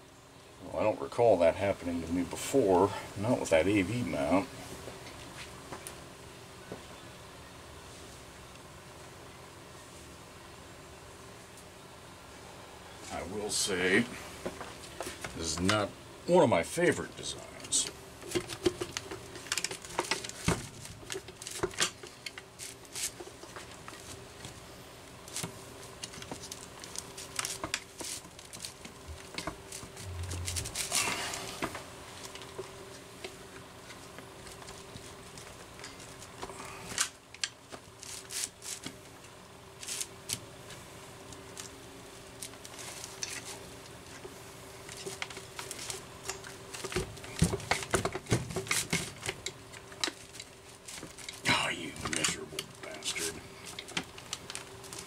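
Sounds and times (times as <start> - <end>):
faint steady hum: 0.0 - 55.0
rustle: 0.0 - 55.0.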